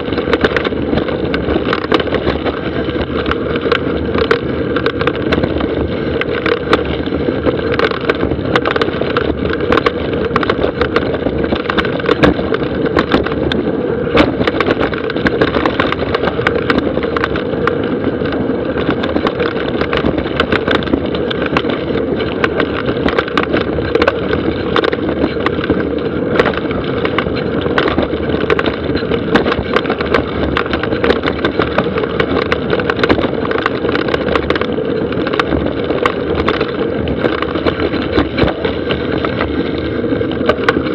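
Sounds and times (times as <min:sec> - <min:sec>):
bike rattling over rocks: 0:00.0 - 0:40.9
bike tyres rushing on dirt: 0:00.0 - 0:40.9.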